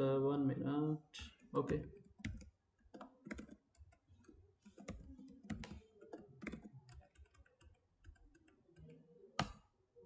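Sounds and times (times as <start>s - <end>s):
computer keyboard typing: 1.6s - 9.6s.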